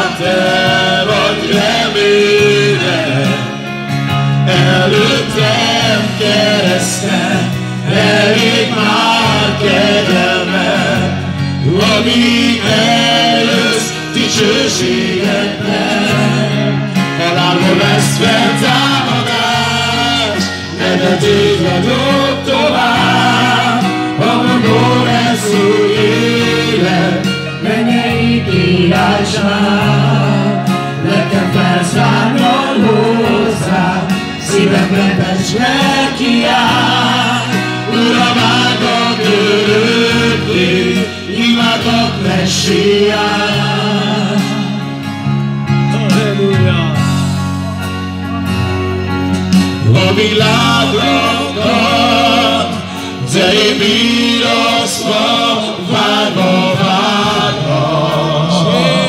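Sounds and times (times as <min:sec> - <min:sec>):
gospel singing with band: 0:00.0 - 0:59.0
sustained bass line: 0:00.0 - 0:59.0.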